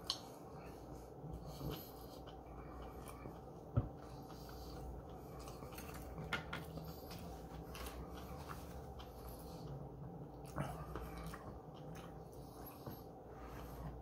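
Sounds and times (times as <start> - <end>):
quiet chewing: 0.0 - 14.0.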